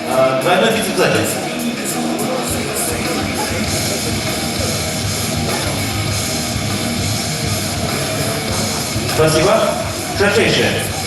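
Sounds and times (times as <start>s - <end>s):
rock music with heavy guitars: 0.0s - 11.0s.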